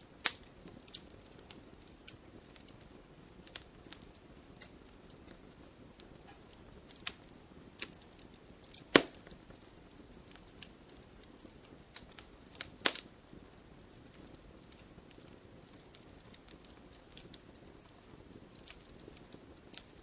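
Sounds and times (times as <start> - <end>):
campfire crackling and popping: 0.0 - 20.0
low hiss: 0.0 - 20.0.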